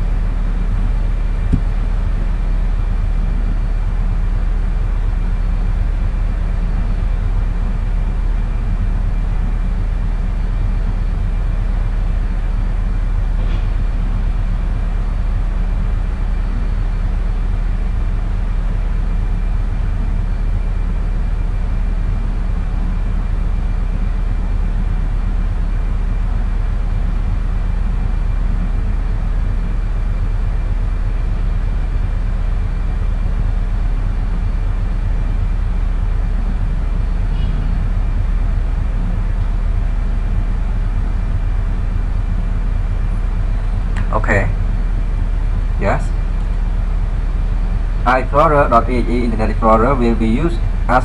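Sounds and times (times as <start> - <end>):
faint high whine: 0.0 - 51.0
low hum and rumble: 0.0 - 51.0.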